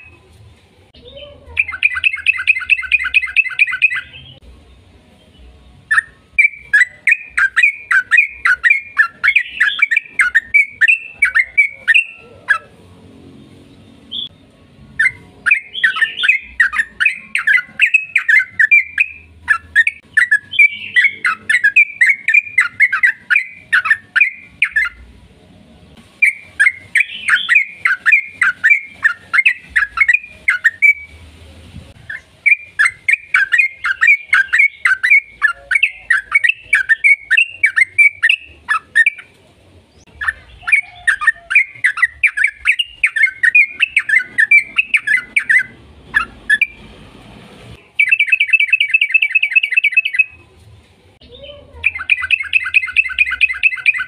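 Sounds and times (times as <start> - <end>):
bird chattering song: 1.0 - 12.8, 15.0 - 25.0, 26.2 - 31.2, 32.0 - 46.9, 47.8 - 50.4, 51.2 - 54.0.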